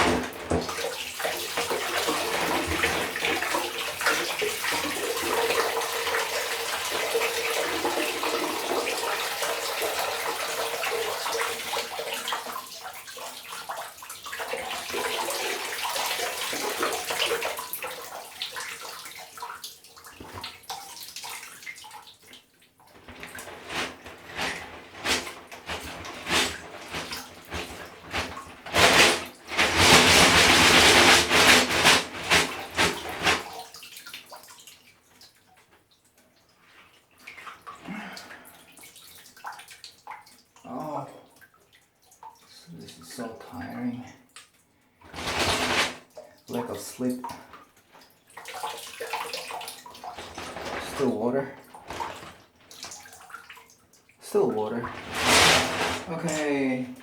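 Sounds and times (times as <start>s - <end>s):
water running in a sink: 0.0s - 35.5s, 36.3s - 57.0s.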